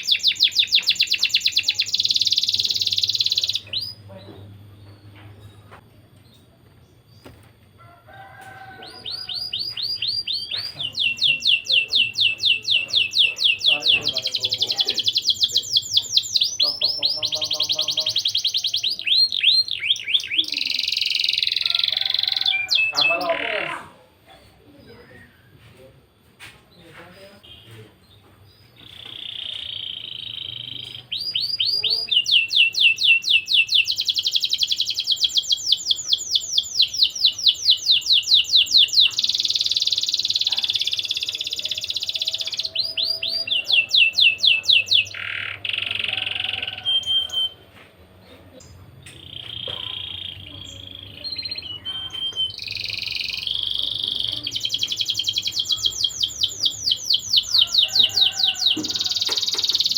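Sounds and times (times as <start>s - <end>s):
canary singing: 0.0s - 24.0s, 28.4s - 59.9s.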